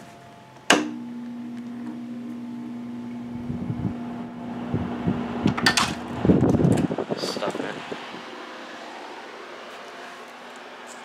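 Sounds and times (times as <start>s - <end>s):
air conditioner fan humming: 0.0s - 11.0s.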